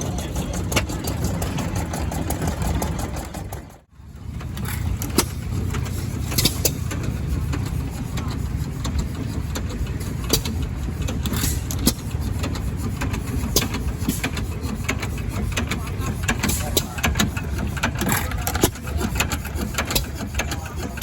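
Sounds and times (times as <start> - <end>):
engine running with low rumble: 0.0 - 21.0
sharp clicks and knocks: 0.0 - 21.0.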